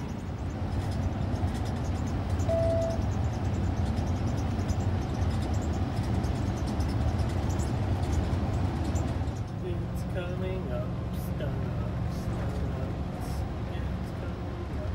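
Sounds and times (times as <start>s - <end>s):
vehicle rumbling on road: 0.0s - 14.9s.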